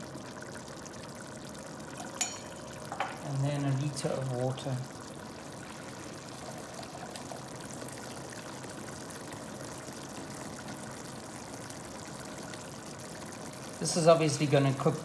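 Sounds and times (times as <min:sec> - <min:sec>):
water pouring into a jug: 0:00.0 - 0:15.0.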